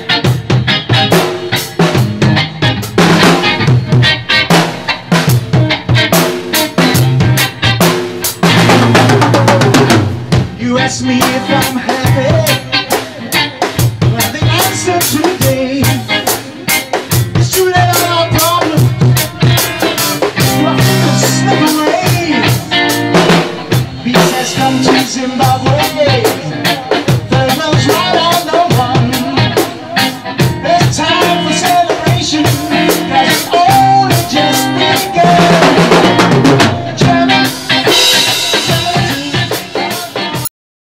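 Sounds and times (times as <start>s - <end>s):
bass and melody instruments: 0.0s - 40.5s
drum kit beat: 0.0s - 40.5s
guitar notes: 0.0s - 40.5s.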